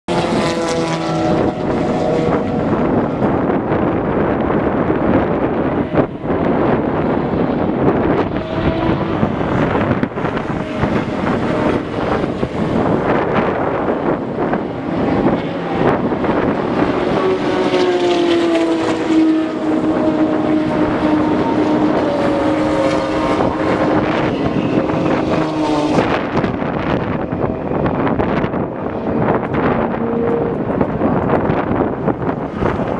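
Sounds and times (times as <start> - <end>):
vehicle engine droning: 0.1 - 32.9
wind noise on microphone: 0.1 - 32.9.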